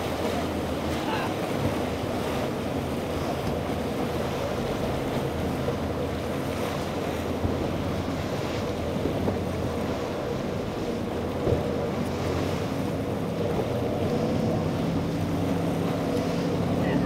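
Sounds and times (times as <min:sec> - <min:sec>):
boat engines droning: 0:00.0 - 0:17.0
spray and choppy water: 0:00.0 - 0:17.0
wind on microphone: 0:00.0 - 0:17.0.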